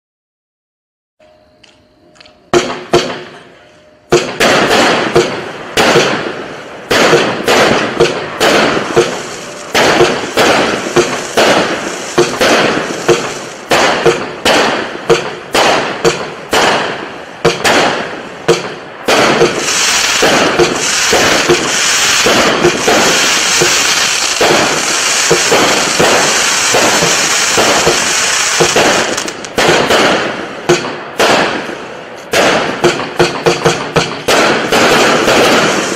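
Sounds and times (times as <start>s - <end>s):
firework shells banging: 2.5s - 35.9s
firework crackling: 4.1s - 35.9s.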